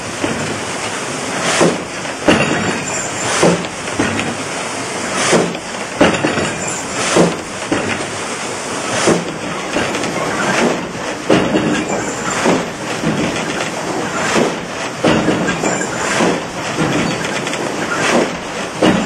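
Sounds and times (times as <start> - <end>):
rushing water: 0.0 - 19.0
sawmill machinery clattering: 0.0 - 19.0.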